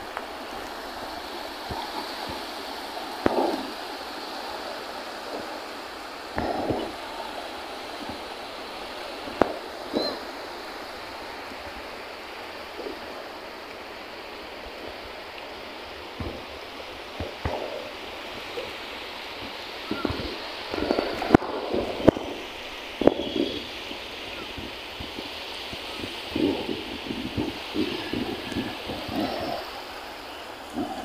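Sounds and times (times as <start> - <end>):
waves washing on beach: 0.0 - 31.0.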